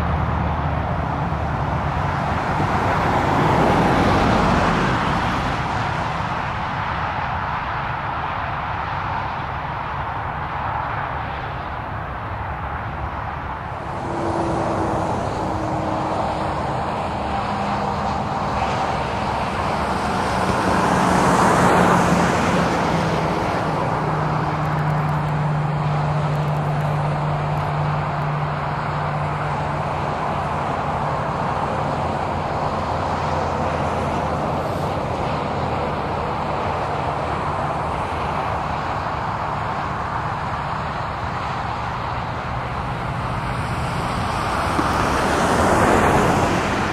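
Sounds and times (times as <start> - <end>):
jet engines taxiing: 0.0 - 46.9.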